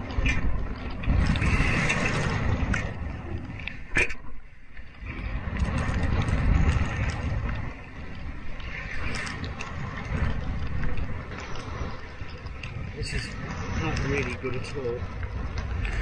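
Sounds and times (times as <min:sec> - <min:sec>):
sea rushing along hull: 0:00.0 - 0:16.0
wind buffeting microphone: 0:00.0 - 0:16.0.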